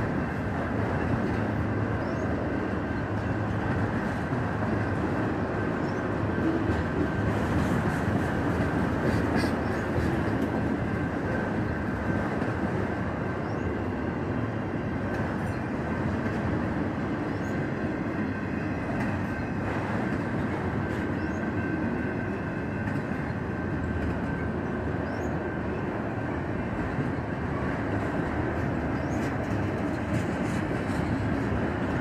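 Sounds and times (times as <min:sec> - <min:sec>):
freight cars rolling on rails: 0:00.0 - 0:32.0.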